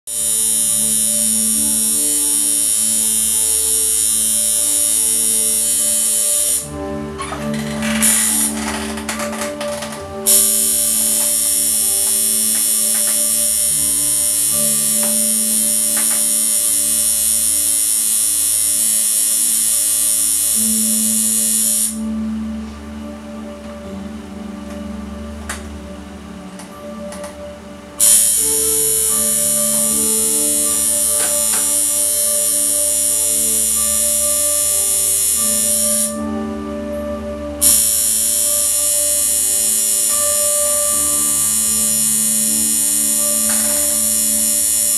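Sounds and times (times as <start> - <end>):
background music: 0.0 - 44.9
tattoo machine buzzing: 0.1 - 6.7, 7.4 - 22.0, 28.0 - 36.4, 37.6 - 44.9.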